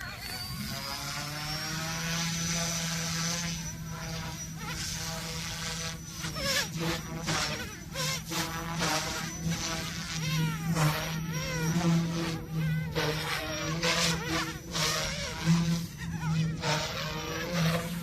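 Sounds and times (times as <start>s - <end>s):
helicopter rotor whine: 0.0s - 18.0s
low steady hum: 0.0s - 18.0s
rotor whooshing surges: 0.0s - 18.0s.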